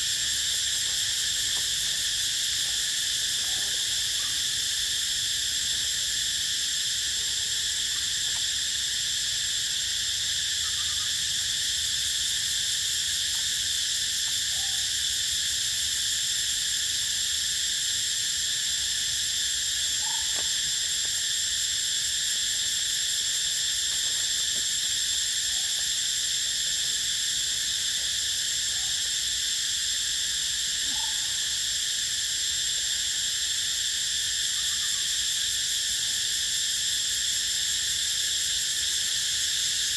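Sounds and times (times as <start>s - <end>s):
insect chorus buzzing and trilling: 0.0s - 39.9s.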